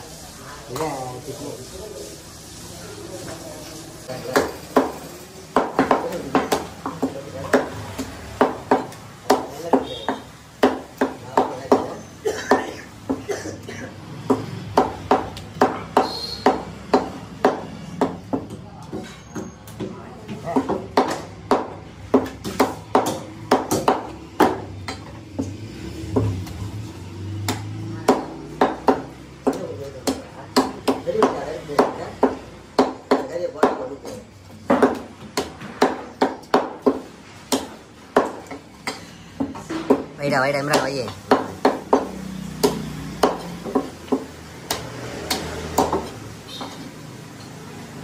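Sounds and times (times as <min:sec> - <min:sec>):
cleaver chopping meat on wooden block: 0:04.3 - 0:13.2, 0:14.2 - 0:26.6, 0:27.4 - 0:46.8.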